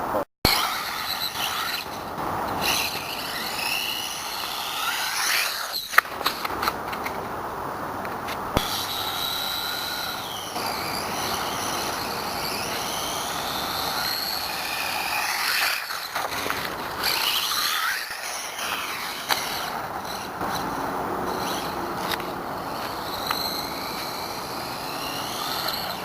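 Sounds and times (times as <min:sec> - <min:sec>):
electric motor whining: 0:00.5 - 0:06.0, 0:08.6 - 0:26.0.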